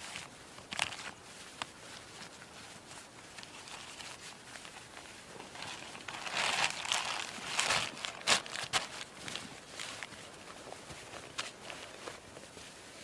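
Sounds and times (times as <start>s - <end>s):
rustling crunching handling noise: 0.0s - 13.0s.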